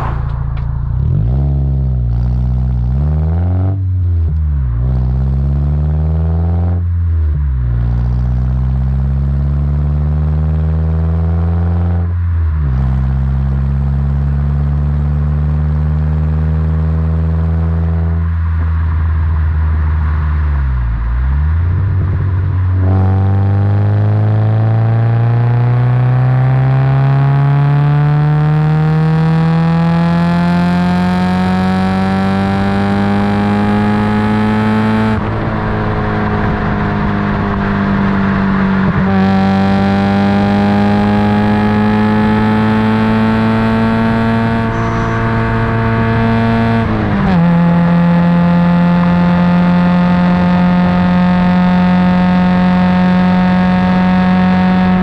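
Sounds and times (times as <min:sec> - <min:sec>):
car engine revving through gears: 0:00.0 - 0:18.4, 0:20.0 - 0:55.0.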